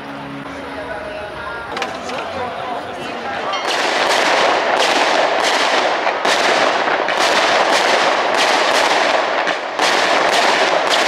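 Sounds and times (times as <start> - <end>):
fireworks shells bursting: 1.7 - 11.0.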